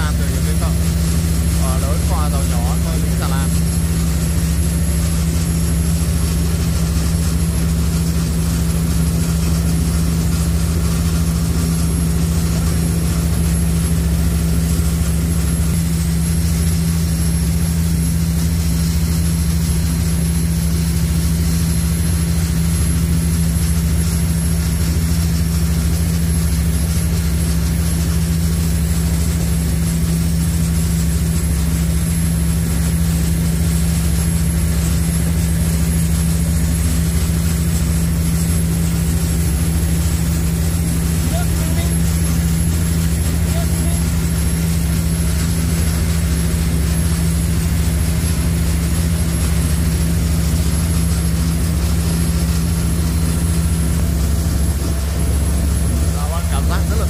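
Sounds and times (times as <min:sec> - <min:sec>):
ferry engine drone: 0:00.0 - 0:57.0.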